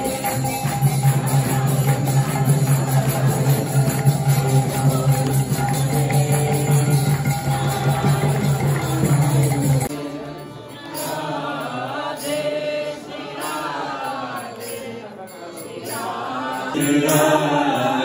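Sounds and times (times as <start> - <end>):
group devotional singing: 0.0 - 18.0.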